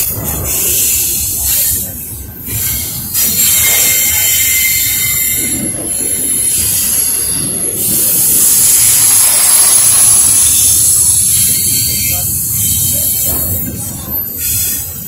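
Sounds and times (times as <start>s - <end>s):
high wheel squeal: 0.0s - 15.0s
train wheels rumbling on rail: 0.0s - 15.0s.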